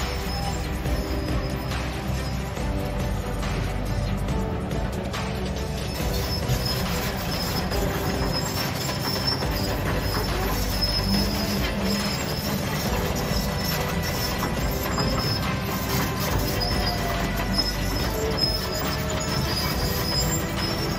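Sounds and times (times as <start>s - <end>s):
high thin squeal: 0.0s - 3.6s, 5.8s - 20.9s
excavator diesel engine running: 0.0s - 20.9s.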